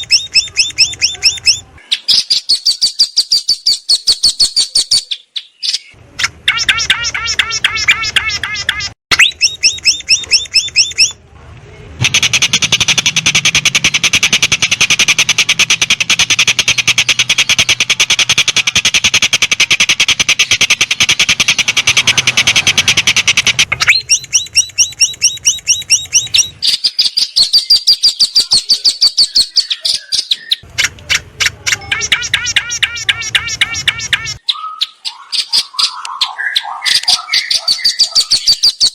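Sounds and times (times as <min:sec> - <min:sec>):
bird chirps and trills: 0:00.0 - 0:11.2, 0:12.0 - 0:38.9.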